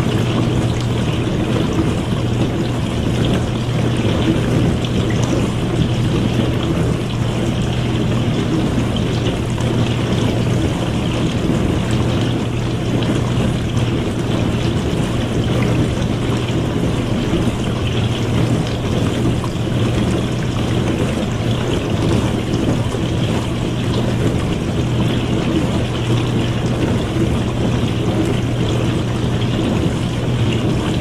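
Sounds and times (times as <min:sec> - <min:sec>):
dishwasher low hum: 0:00.0 - 0:31.0
water spraying in dishwasher: 0:00.0 - 0:31.0.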